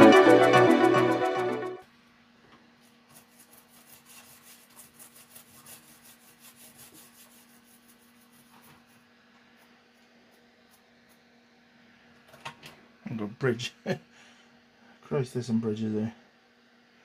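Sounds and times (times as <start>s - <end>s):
faint steady hum: 1.7s - 17.0s.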